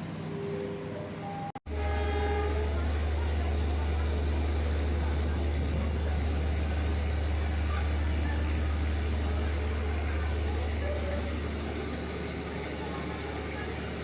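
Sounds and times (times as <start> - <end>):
moving passenger train rumble: 0.0 - 14.0.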